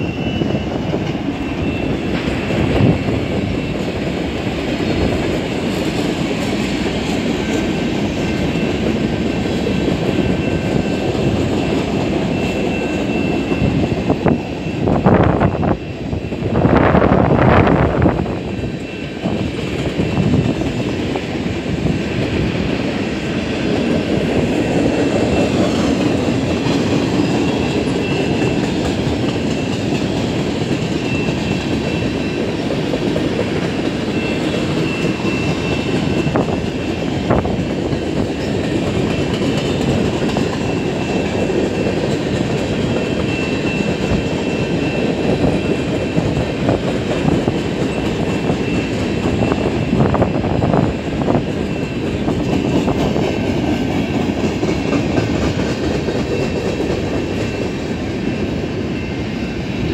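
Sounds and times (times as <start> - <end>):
freight train rumbling and rattling: 0.0 - 59.9.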